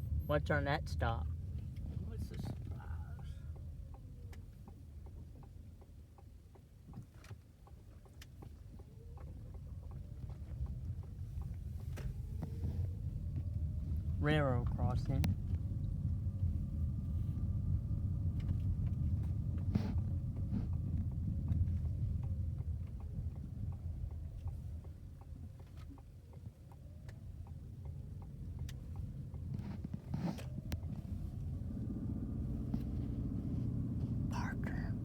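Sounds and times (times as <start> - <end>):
car road rumble: 0.0 - 35.0
turn signal ticking: 0.0 - 35.0.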